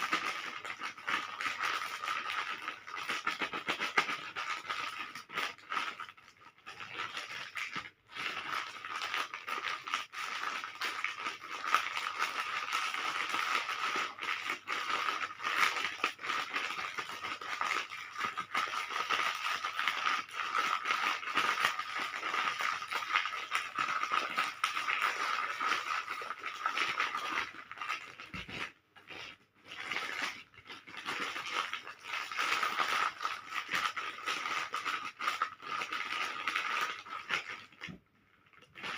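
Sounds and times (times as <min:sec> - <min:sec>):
plastic wrappers crinkling: 0:00.0 - 0:38.9.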